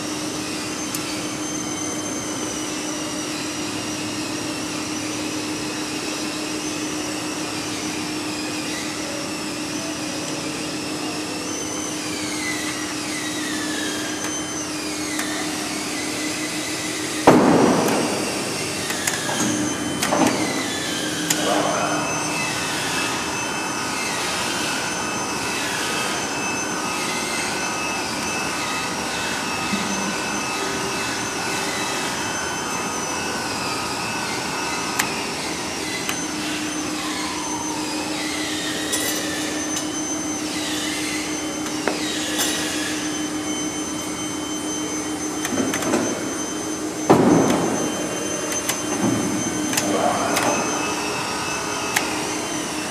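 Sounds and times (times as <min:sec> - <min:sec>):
paper cutting machine running: 0:00.0 - 0:52.9.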